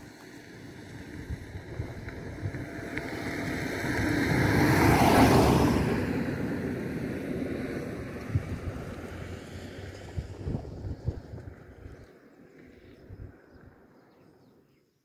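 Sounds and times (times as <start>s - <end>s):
wind gusting over microphone: 0.0s - 12.3s, 12.9s - 13.8s.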